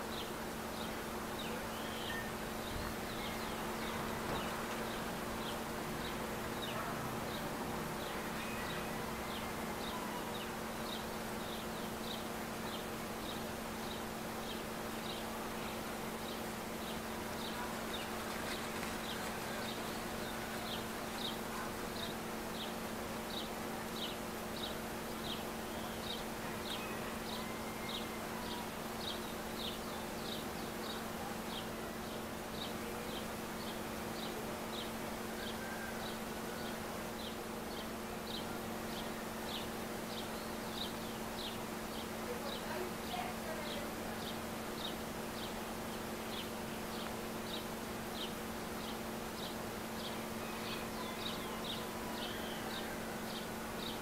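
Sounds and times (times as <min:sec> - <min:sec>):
insects buzzing hum: 0:00.0 - 0:54.0.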